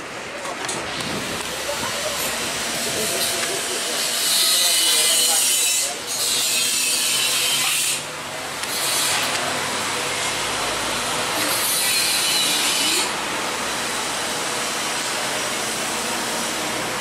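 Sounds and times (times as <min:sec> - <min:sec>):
loud steady hissing: 0:00.0 - 0:17.0.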